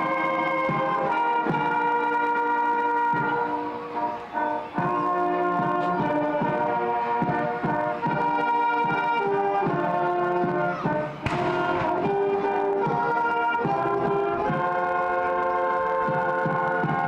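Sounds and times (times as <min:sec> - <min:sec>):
brass band playing chords: 0:00.0 - 0:17.0.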